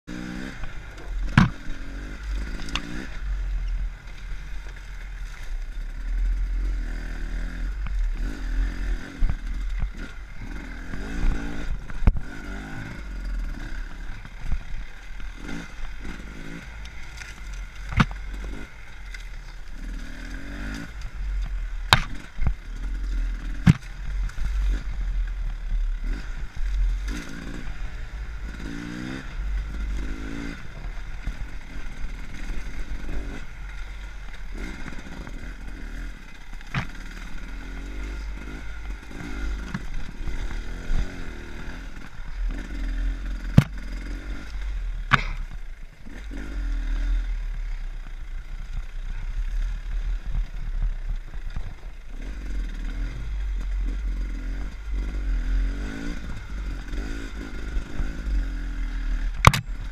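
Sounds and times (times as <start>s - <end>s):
dirt bike engine revving: 0.1s - 59.9s.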